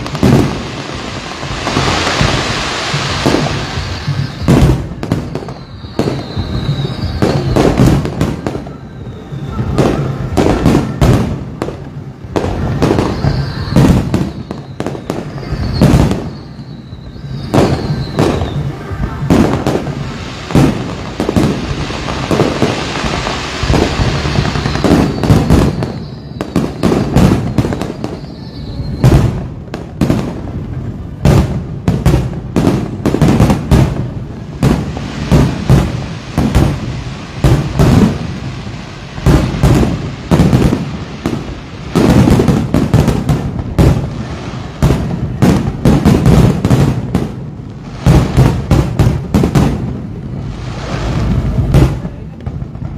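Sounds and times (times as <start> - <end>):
falling firework whistles: 0.0 - 52.0
dense firework crackling: 0.0 - 52.9
fireworks bursting with booms: 0.0 - 52.9.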